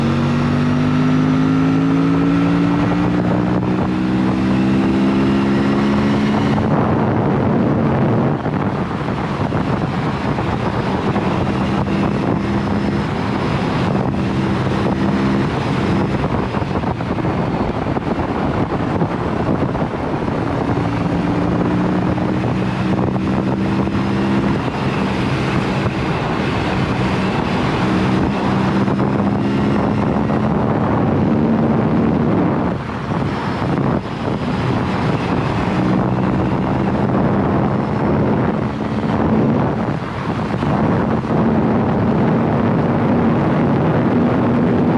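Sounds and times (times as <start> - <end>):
motorcycle engine at speed: 0.0 - 44.9
wind rushing over microphone: 0.0 - 44.9.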